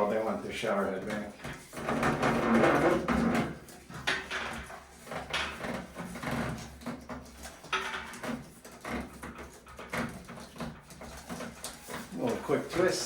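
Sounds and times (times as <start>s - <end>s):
knocks and creaks of handling: 0.0s - 13.0s.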